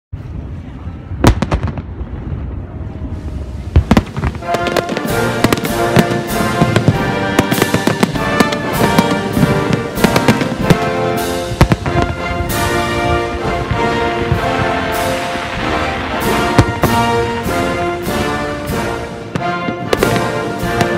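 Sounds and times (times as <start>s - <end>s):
fireworks bursting with bangs: 1.1s - 20.9s
music playing: 3.9s - 20.9s.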